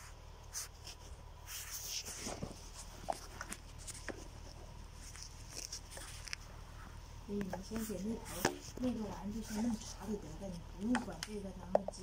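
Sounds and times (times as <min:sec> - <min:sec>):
faint low hum: 0:00.0 - 0:12.0
plastic rustling: 0:00.6 - 0:11.2.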